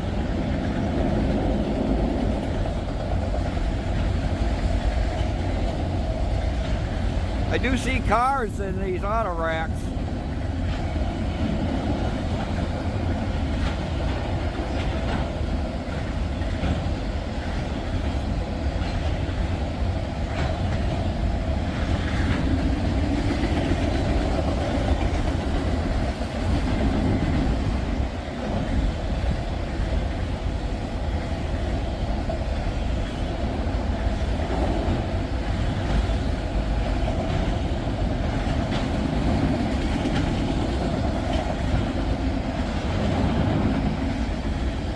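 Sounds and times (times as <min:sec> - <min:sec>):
wheels clicking over rail joints: 0:00.0 - 0:07.8, 0:09.9 - 0:44.9
freight train rolling past: 0:00.0 - 0:44.9.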